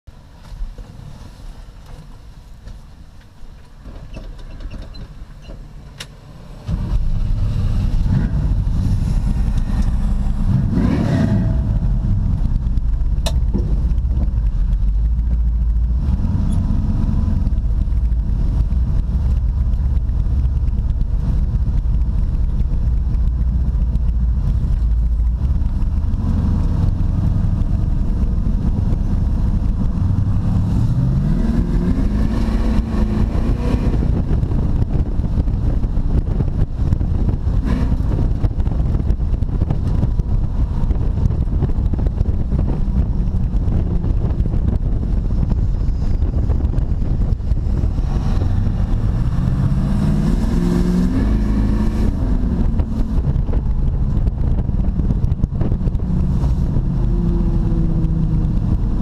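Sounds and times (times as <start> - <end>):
car engine from inside cabin: 4.6 - 59.0.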